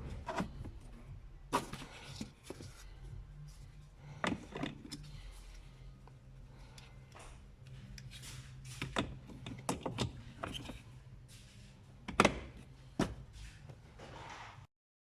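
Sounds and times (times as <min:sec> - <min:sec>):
faint low hum: 0:00.0 - 0:14.5.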